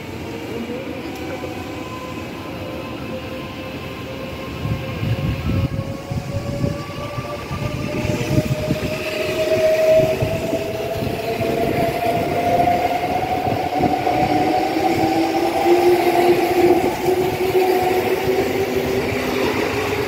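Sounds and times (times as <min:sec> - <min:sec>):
train wheel rumble: 0:00.0 - 0:20.0.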